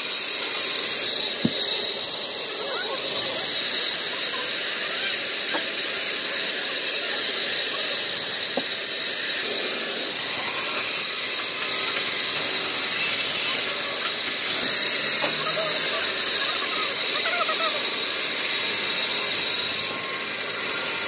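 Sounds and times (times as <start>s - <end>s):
band saw hissing: 0.0s - 21.0s.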